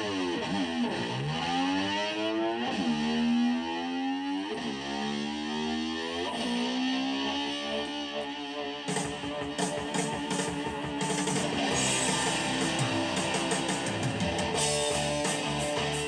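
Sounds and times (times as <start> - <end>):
distorted electric slide guitar: 0.0 - 16.0.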